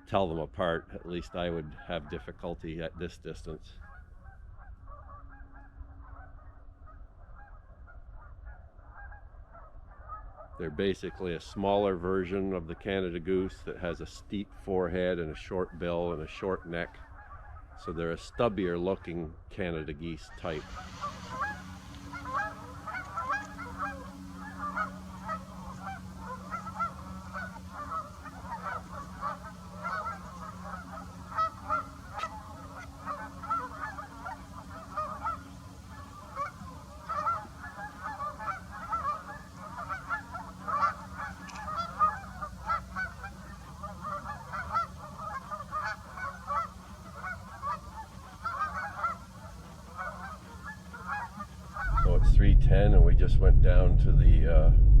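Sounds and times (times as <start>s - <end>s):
geese honking chorus: 0.0s - 52.2s.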